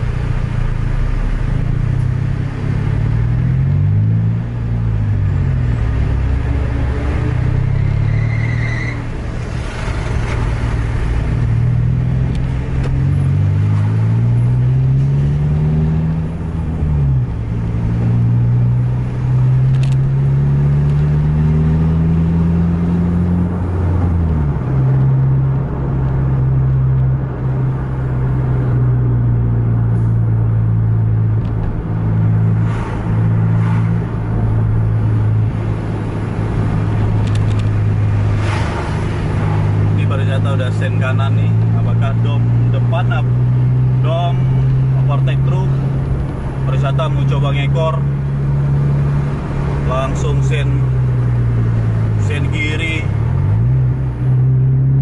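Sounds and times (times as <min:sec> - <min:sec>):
road noise: 0:00.0 - 0:55.0
engine revving through gears: 0:01.2 - 0:08.2, 0:09.3 - 0:29.3, 0:29.9 - 0:55.0.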